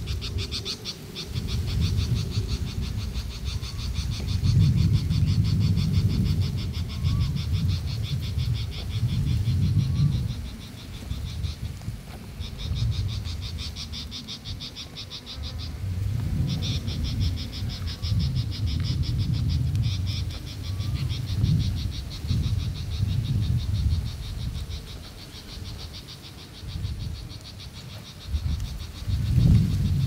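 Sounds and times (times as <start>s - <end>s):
wind gusting across microphone: 0.0s - 30.0s.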